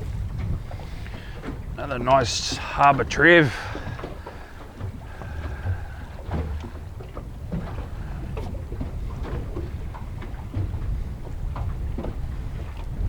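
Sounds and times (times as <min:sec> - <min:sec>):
water lapping against boat hull: 0:00.0 - 0:13.0
wind rumble on microphone: 0:00.0 - 0:13.0.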